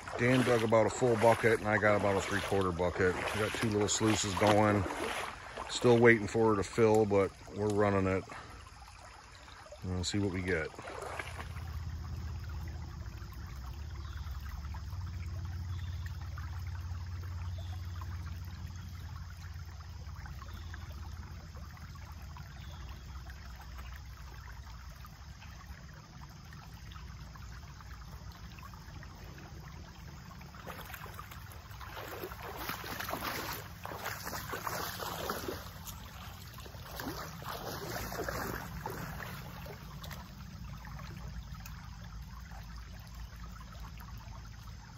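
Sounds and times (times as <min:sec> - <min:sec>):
creek water running: 0:00.0 - 0:44.9
water splashing and sloshing: 0:00.0 - 0:44.9.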